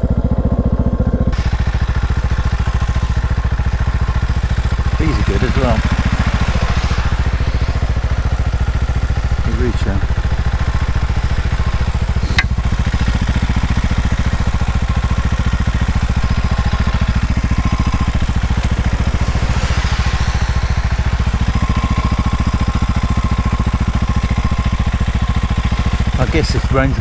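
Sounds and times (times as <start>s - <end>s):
motorcycle engine running: 0.0s - 27.0s
hiss: 1.4s - 26.5s.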